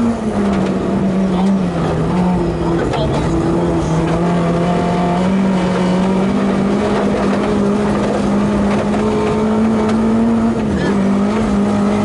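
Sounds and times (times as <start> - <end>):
car engine running hard: 0.0 - 12.0
tyre and road noise: 0.0 - 12.0.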